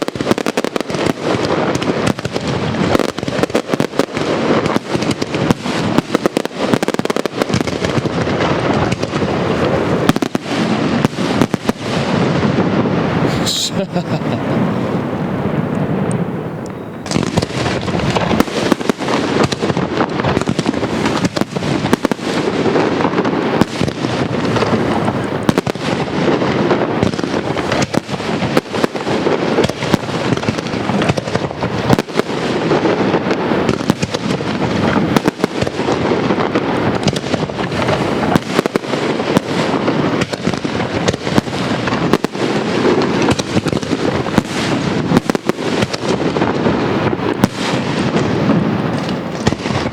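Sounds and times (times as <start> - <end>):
fireworks bursts and crackling: 0.0 - 49.9.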